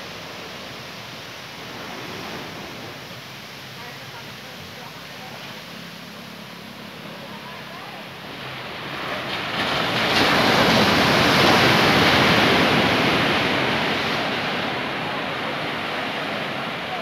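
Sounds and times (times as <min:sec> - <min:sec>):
wave breaking on beach: 0:00.0 - 0:17.0.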